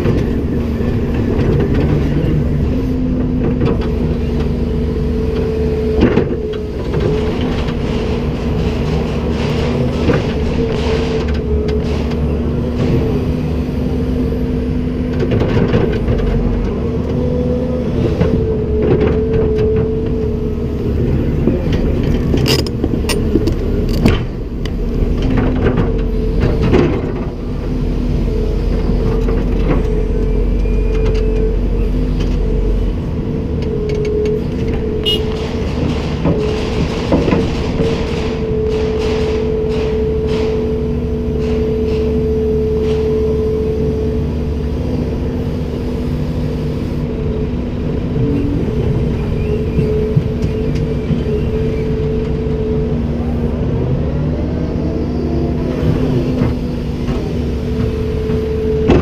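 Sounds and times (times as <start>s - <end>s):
excavator engine and hydraulics whining: 0.0s - 59.0s.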